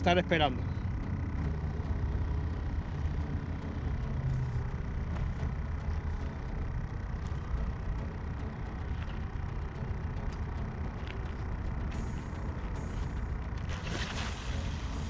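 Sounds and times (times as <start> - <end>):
road traffic rumble: 0.0 - 15.0
wind: 0.0 - 15.0.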